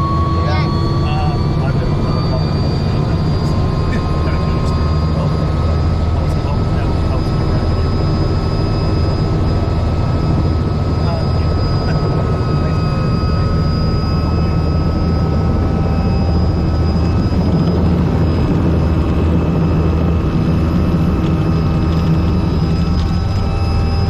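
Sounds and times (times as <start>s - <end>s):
helicopter running: 0.0s - 24.0s.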